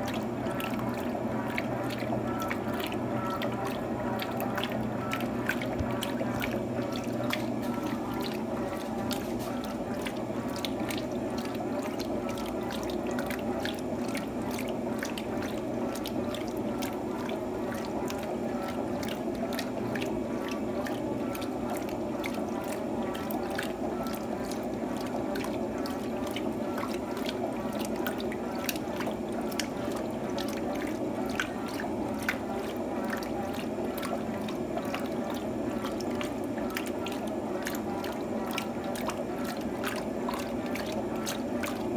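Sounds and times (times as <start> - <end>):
water splashing in washing machine: 0.0 - 41.9.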